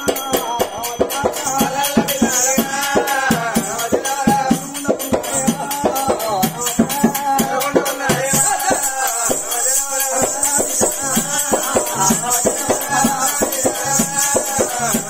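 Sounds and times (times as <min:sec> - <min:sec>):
drum beaten in quick beat: 0:00.0 - 0:15.0
jingling metal percussion: 0:00.0 - 0:15.0.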